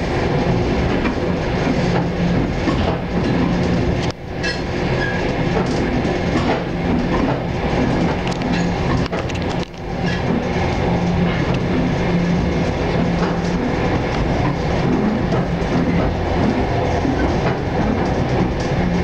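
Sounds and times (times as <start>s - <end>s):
freight train passing: 0.0s - 19.0s
train wheels clickety-clack: 0.0s - 19.0s.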